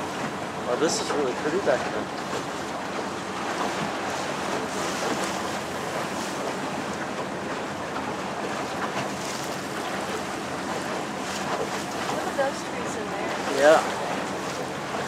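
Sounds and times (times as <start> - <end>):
water washing: 0.0 - 15.0.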